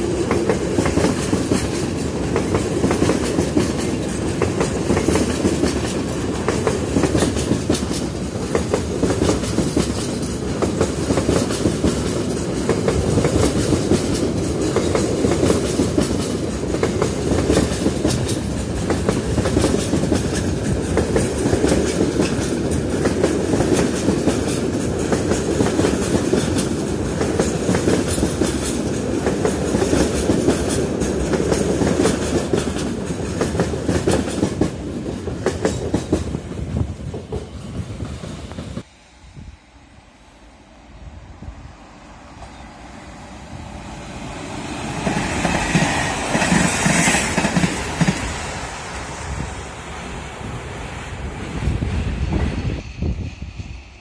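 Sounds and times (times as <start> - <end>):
train wheels clattering on rails: 0.0 - 38.9, 43.4 - 52.8.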